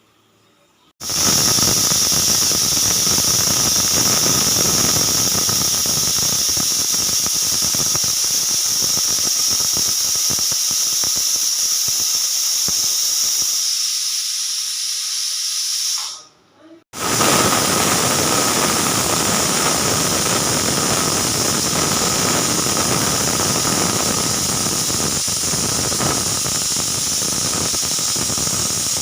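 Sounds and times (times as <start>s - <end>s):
pressure cooker whistle: 1.0s - 16.4s, 17.0s - 29.0s.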